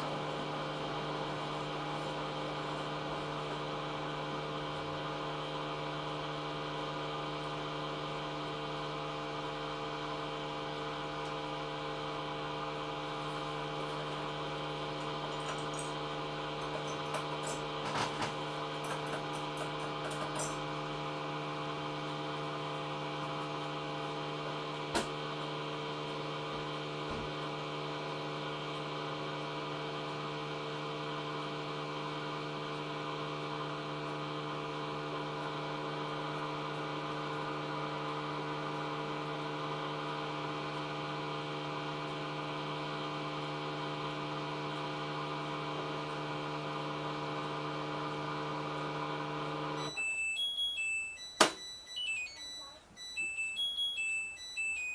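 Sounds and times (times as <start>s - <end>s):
washing machine humming: 0.0s - 54.9s.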